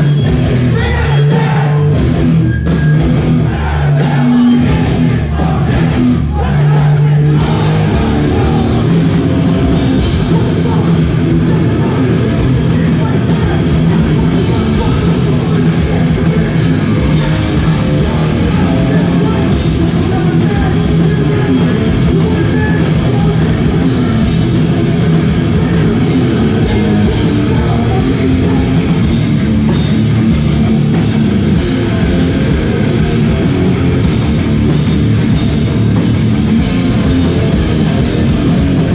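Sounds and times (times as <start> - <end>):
live hardcore band playing: 0.0 - 38.9.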